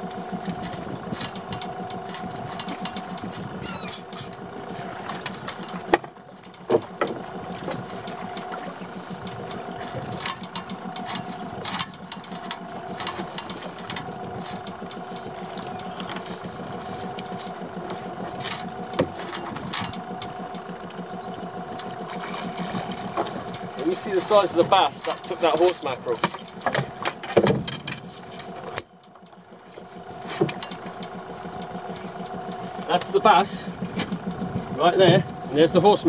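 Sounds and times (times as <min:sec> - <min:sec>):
fishing reel whirring: 0:00.0 - 0:27.3, 0:28.0 - 0:36.0.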